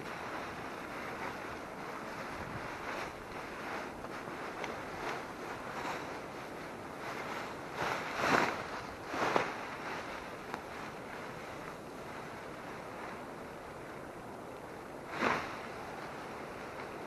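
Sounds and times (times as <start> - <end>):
wind rushing through forest: 0.0 - 17.0.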